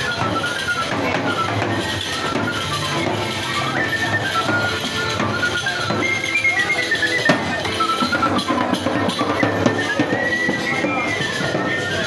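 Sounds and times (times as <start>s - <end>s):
wooden flute melody: 0.0s - 12.0s.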